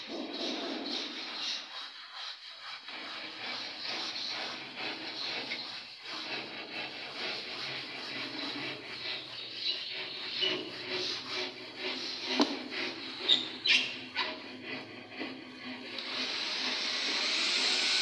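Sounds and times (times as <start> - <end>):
rough rubbing scraping: 0.0 - 18.0.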